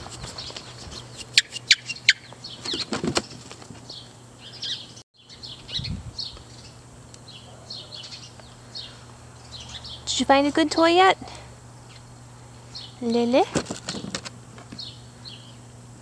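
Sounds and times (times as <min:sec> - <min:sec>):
small birds chirping: 0:00.2 - 0:10.8, 0:11.8 - 0:14.1, 0:14.7 - 0:15.7.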